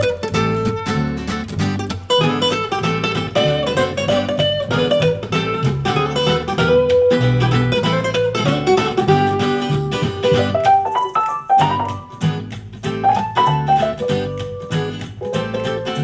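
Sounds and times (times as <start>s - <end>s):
plucked guitar music with bass: 0.0s - 16.0s.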